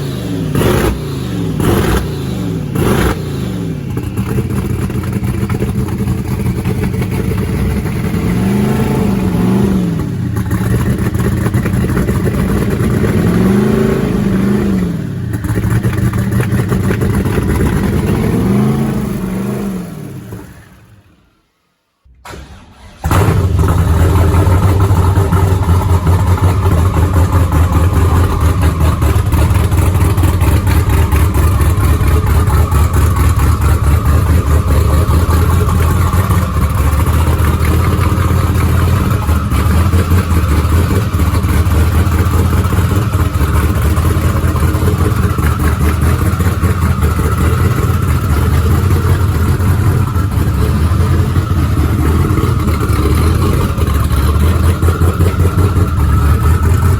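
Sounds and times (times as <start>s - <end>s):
car engine idling: 0.0s - 21.3s, 22.2s - 56.9s.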